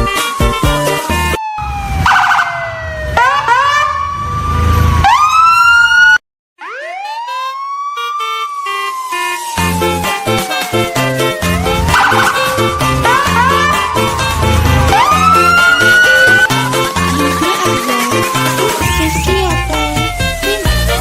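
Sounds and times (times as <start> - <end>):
siren wailing: 0.0 - 21.0.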